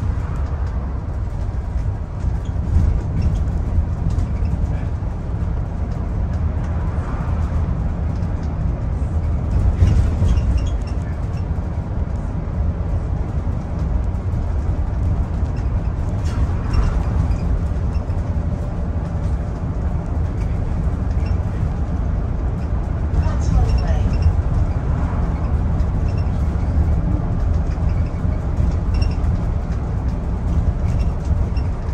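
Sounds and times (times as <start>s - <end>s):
bus engine and road rumble: 0.0s - 31.9s
light clatter: 0.0s - 31.9s.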